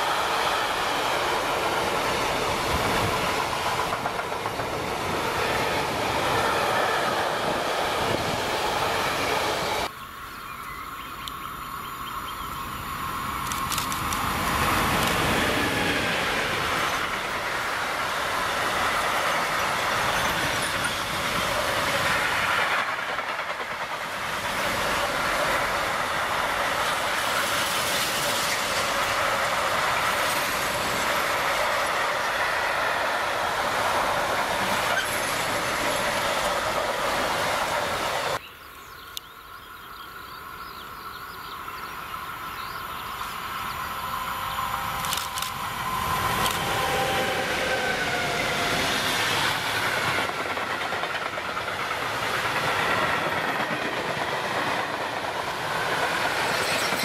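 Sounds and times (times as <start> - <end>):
freight train rolling past: 0.0 - 38.5, 39.6 - 57.0
distant approaching train: 0.0 - 57.0.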